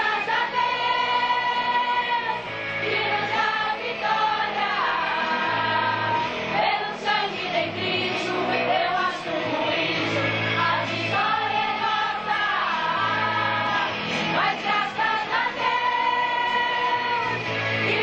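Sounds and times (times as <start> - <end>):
church choir singing: 0.0 - 18.0.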